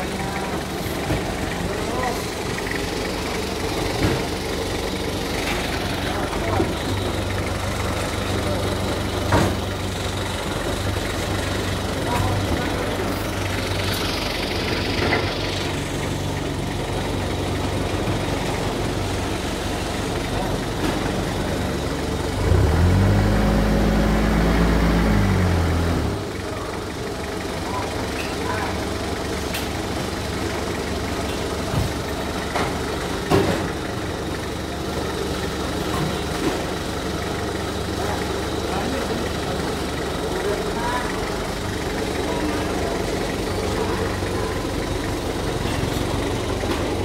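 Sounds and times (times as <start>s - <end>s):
forklift engine idling: 0.0s - 47.0s.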